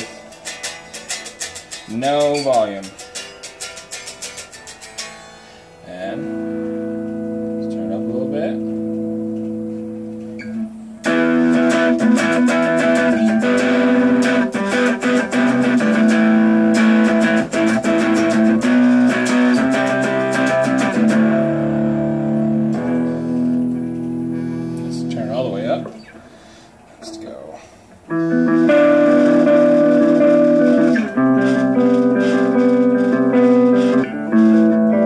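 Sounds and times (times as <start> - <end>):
guitar through small amplifier: 0.0 - 35.0.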